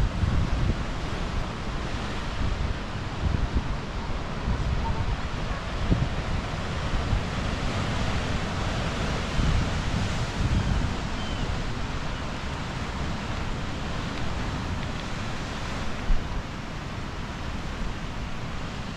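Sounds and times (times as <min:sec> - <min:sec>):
wind buffeting microphone: 0:00.0 - 0:18.9.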